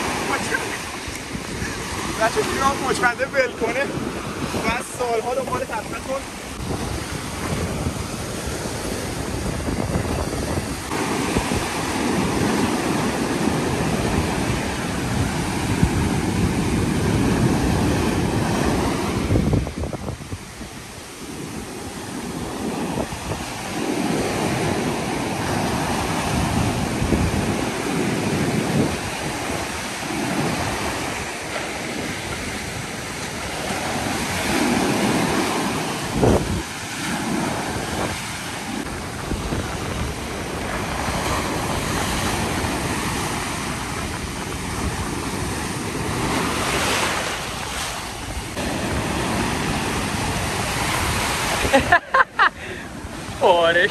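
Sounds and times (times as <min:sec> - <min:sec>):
ocean surf breaking: 0:00.0 - 0:53.9
wind buffeting microphone: 0:00.0 - 0:53.9.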